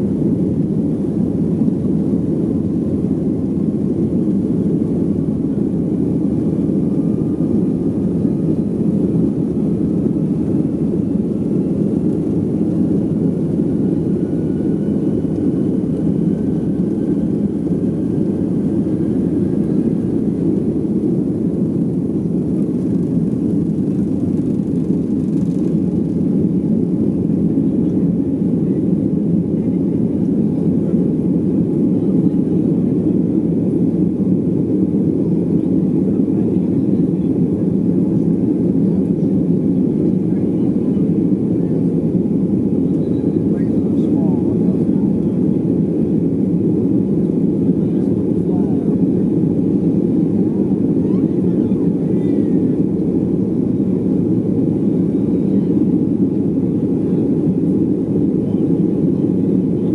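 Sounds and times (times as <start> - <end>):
faint engine whine: 0.0 - 59.9
jet engines heard from cabin: 0.0 - 59.9.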